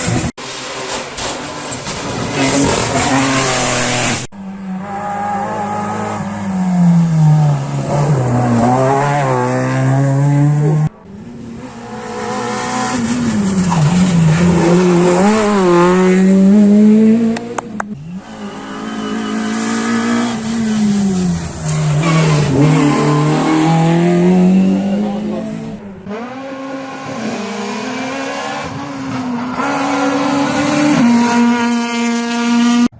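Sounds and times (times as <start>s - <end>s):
rally car engines revving: 0.0s - 32.9s.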